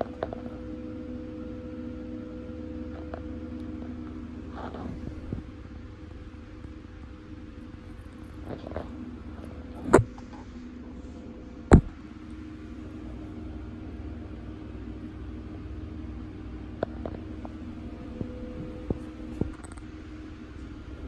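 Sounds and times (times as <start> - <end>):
faint steady tone: 0.0 - 21.0
low mechanical hum: 0.0 - 21.0.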